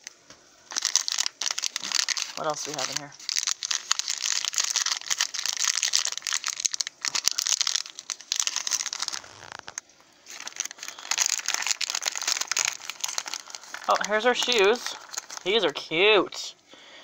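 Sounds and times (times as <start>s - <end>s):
plastic packet crinkling: 0.7s - 16.1s.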